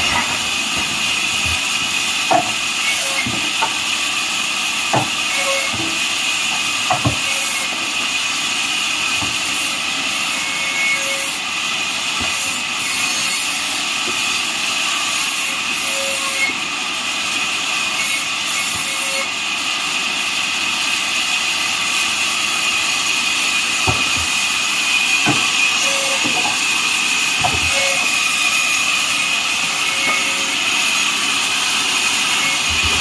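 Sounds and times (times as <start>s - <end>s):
bandsaw mill sawing wood: 0.0s - 33.0s.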